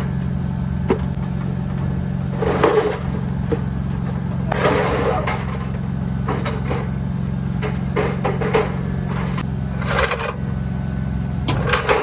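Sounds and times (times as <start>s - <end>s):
engine humming steadily: 0.0s - 12.0s
scrapes and knocks of metal: 0.9s - 10.4s, 11.4s - 12.0s.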